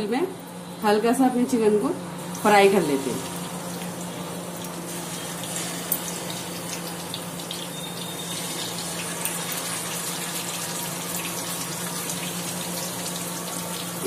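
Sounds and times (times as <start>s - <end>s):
chicken sizzling in hot oil: 2.2s - 14.0s.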